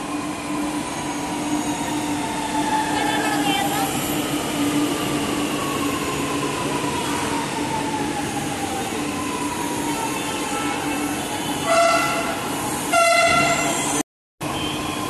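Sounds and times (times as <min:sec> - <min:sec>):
electric train slowing: 0:00.0 - 0:11.6, 0:12.2 - 0:14.0.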